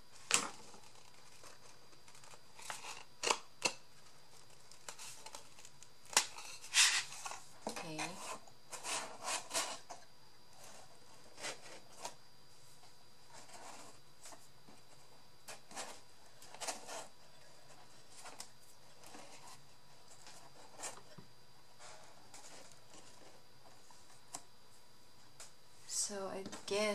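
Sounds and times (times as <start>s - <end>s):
paper and cardboard rustling: 0.1s - 3.4s, 4.0s - 12.2s, 12.8s - 21.2s, 21.8s - 24.4s.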